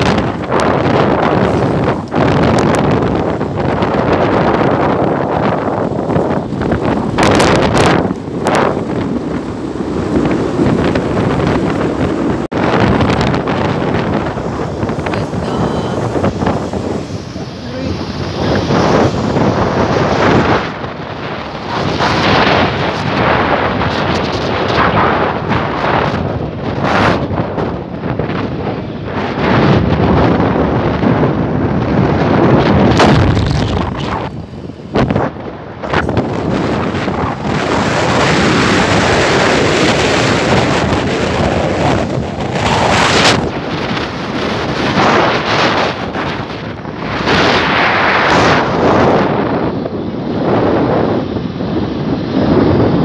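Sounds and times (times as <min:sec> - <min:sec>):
vehicle ride rumble: 0:00.0 - 0:53.0
wind buffeting microphone: 0:00.0 - 0:53.0.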